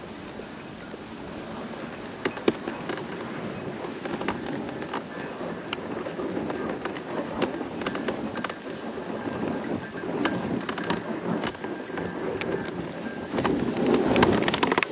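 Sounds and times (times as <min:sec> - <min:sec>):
paws running on snow: 0:00.0 - 0:14.9
sled runners sliding on snow: 0:00.0 - 0:14.9.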